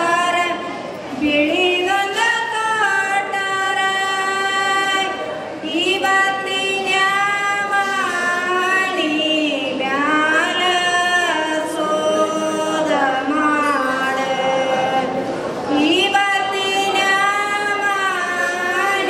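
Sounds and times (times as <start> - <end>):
person singing long notes: 1.3 - 19.0.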